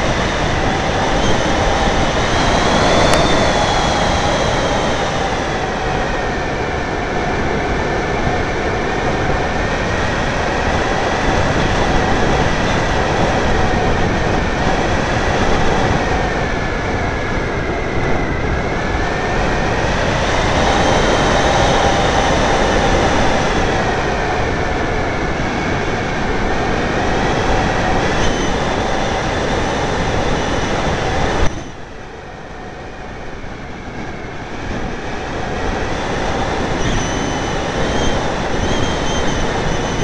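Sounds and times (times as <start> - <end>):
faint high whines: 0.0 - 40.0
rushing air: 0.0 - 40.0.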